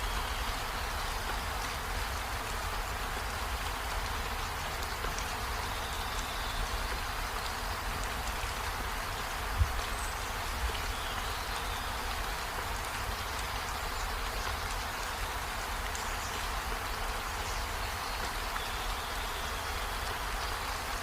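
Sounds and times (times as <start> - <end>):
steady rainfall: 0.0 - 21.0
raindrop ticks: 0.2 - 21.0.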